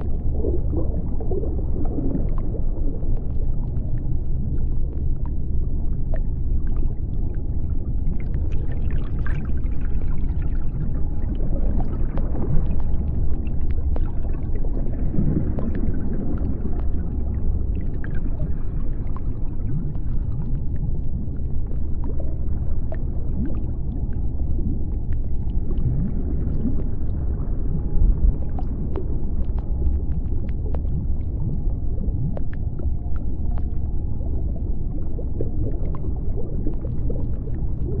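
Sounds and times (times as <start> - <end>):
crackle of small clicks: 0.0 - 38.0
underwater low rumble: 0.0 - 38.0.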